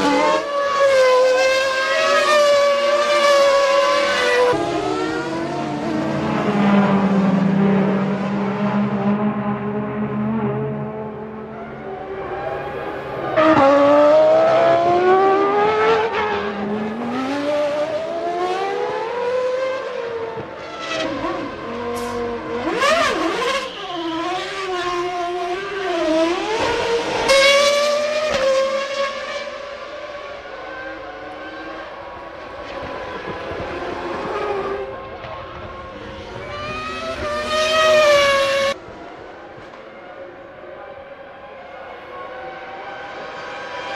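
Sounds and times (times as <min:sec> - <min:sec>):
racing cars passing: 0:00.0 - 0:43.9.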